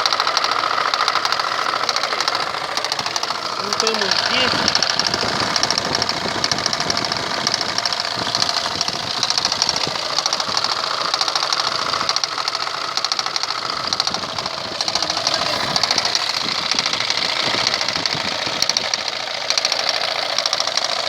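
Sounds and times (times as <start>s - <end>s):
engine running: 0.0s - 21.0s
hydraulic pump knocking: 0.0s - 21.0s.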